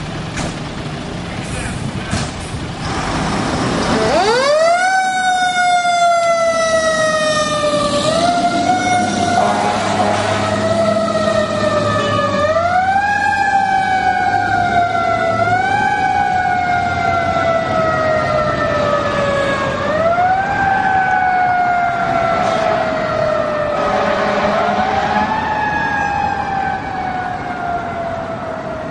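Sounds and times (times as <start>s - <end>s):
truck engine rumble: 0.0s - 28.9s
fire engine siren wailing: 3.0s - 28.9s.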